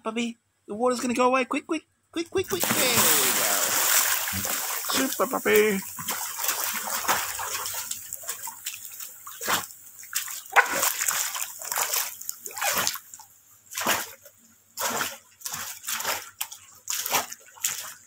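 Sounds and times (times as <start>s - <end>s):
dog splashing in water: 2.5s - 14.2s, 14.8s - 18.0s.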